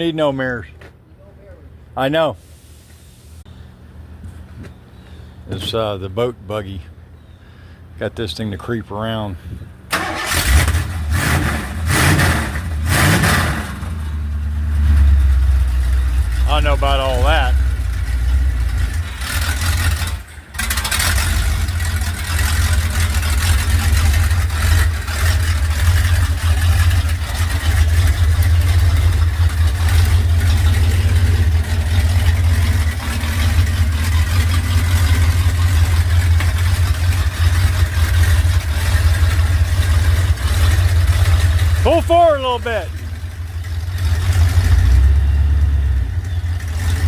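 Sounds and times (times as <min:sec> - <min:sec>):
engine rumbling: 0:00.0 - 0:47.0.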